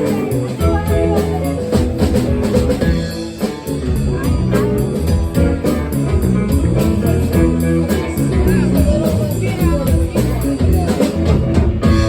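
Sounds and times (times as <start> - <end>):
electric guitar: 0.0 - 12.0
live blues band playing: 0.0 - 12.0.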